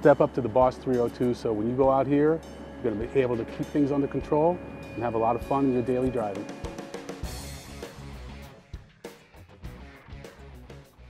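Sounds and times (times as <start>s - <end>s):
music with steady beat: 1.8s - 11.0s.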